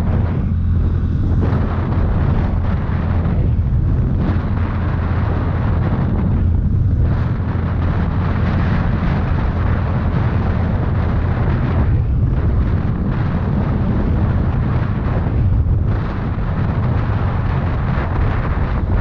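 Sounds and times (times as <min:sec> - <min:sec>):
motorcycle running: 0:00.0 - 0:19.0
wind buffeting microphone: 0:00.0 - 0:19.0.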